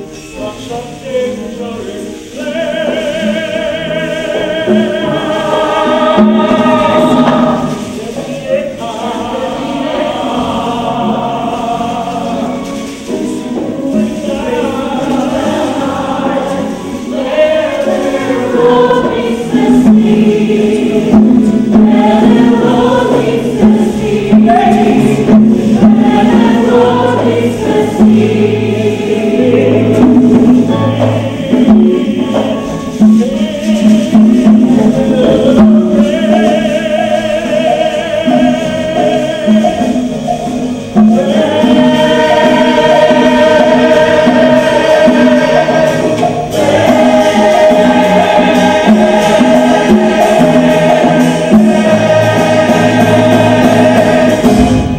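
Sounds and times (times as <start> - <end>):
ensemble singing: 0.0 - 54.9.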